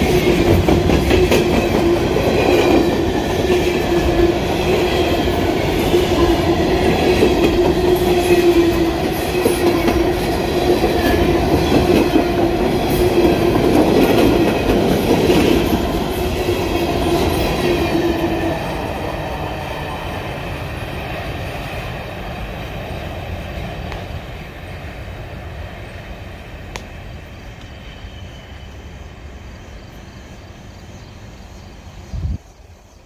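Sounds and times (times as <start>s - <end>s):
train wheels rumbling on rails: 0.0s - 32.7s.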